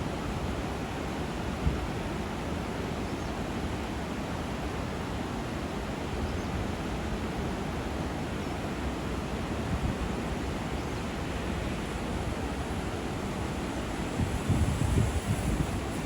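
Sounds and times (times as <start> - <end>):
river water rushing over weir: 0.0 - 14.7.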